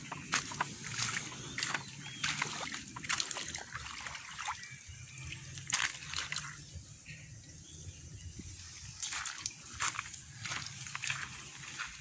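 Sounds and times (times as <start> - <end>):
water sloshing in a puddle: 0.0 - 7.0, 8.8 - 12.0.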